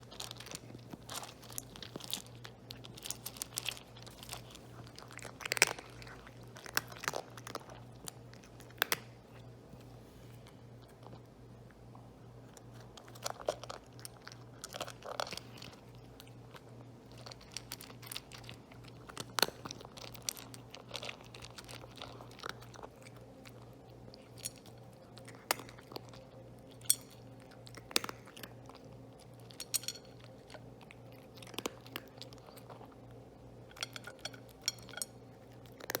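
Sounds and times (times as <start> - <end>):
cat crunching food: 0.0 - 9.5, 10.4 - 36.0.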